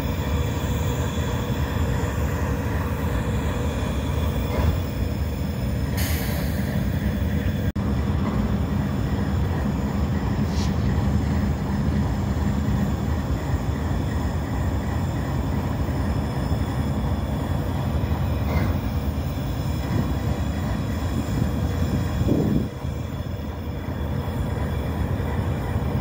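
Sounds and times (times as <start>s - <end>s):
locomotive low rumble: 0.0s - 26.0s.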